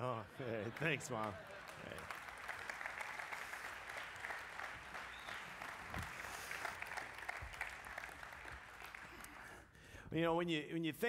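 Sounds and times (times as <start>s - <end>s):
congregation applauding: 0.5s - 9.8s.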